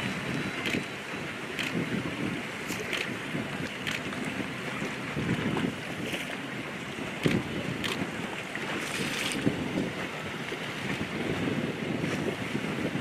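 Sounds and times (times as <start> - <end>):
water splashing and slapping: 0.0 - 13.0
wind buffeting microphone: 0.0 - 13.0.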